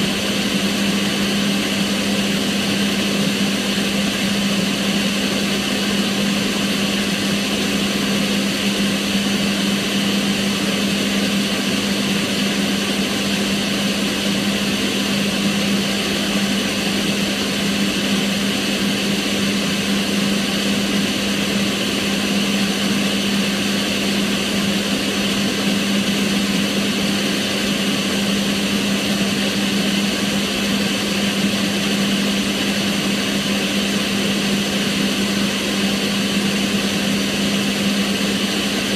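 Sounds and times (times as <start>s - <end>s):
extractor fan running: 0.0s - 38.9s.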